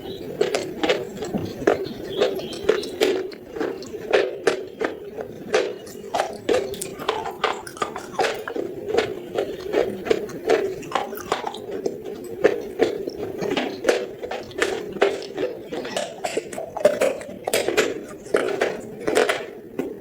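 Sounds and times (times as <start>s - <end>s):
chewing crunchy clay: 0.0s - 20.0s.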